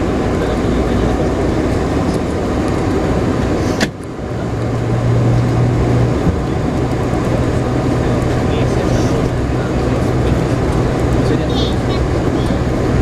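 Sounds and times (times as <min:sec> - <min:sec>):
aircraft cabin engine hum: 0:00.0 - 0:13.0
ground rumble: 0:00.0 - 0:13.0.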